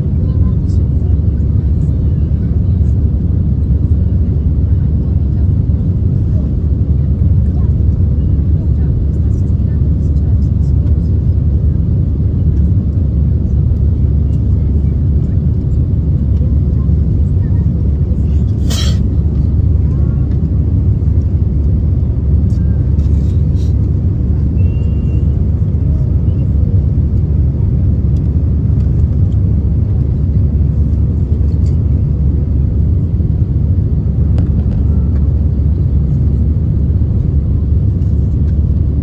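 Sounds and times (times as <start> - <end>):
airplane cabin low rumble: 0.0 - 39.0.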